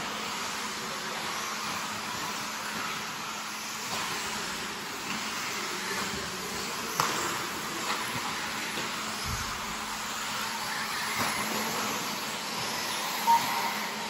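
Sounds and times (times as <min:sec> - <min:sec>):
rc cars buzzing whine: 0:00.0 - 0:14.0.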